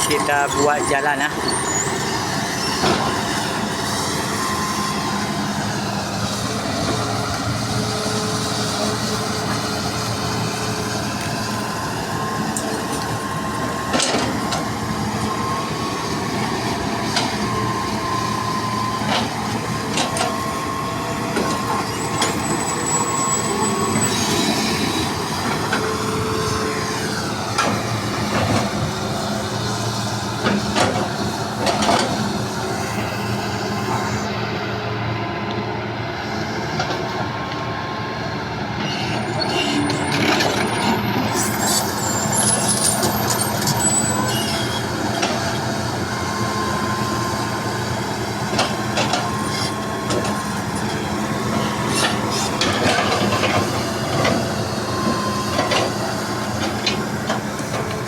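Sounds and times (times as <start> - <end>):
hydraulic whine: 0.0 - 35.1, 36.4 - 58.0
excavator engine running: 0.0 - 58.0.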